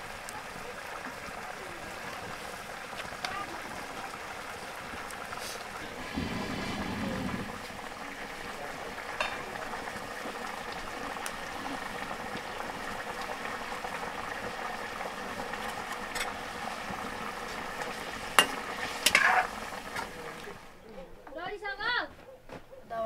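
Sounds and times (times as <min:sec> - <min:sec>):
gravy bubbling in a wok: 0:00.0 - 0:20.8.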